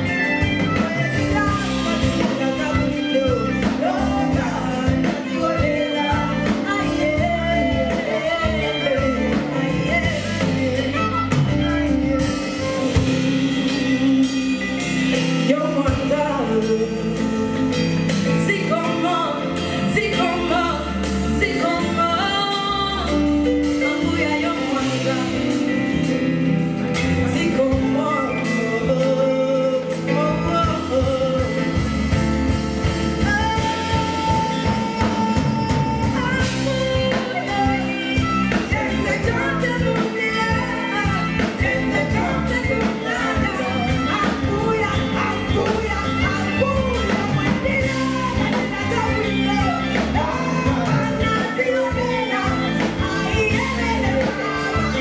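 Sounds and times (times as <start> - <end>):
live band playing: 0.0 - 55.0
woman singing: 0.0 - 55.0.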